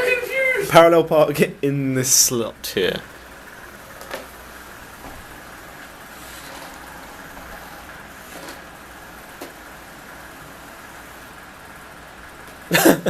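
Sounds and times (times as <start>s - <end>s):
electric motors running: 2.1s - 12.8s.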